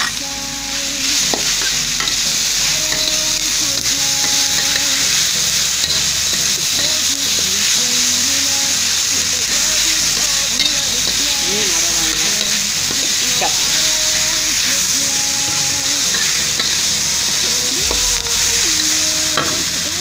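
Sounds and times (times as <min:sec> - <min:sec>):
spice paste sizzling in hot oil: 0:00.8 - 0:20.0
metal spatula stir-frying in wok: 0:00.9 - 0:20.0.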